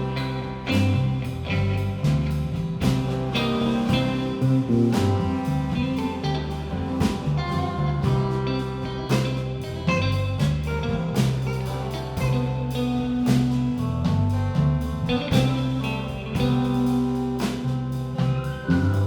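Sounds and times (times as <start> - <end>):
bass notes: 0.0 - 19.0
drums beating: 0.0 - 19.0
electric guitar: 0.0 - 19.0.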